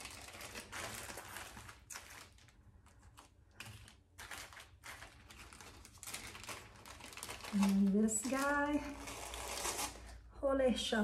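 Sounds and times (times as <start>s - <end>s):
wrapping crinkling: 0.0s - 10.3s.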